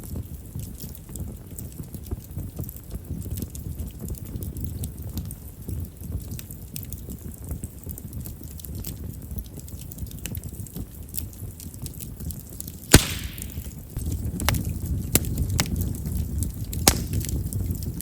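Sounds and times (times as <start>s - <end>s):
bonfire crackling: 0.0s - 18.0s
firewood popping: 0.0s - 18.0s.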